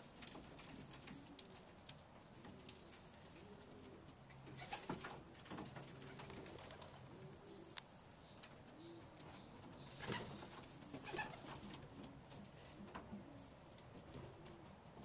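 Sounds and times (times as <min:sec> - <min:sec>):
beaks pecking and rustling leaves: 0:00.0 - 0:14.7
pigeons cooing softly: 0:00.0 - 0:15.0.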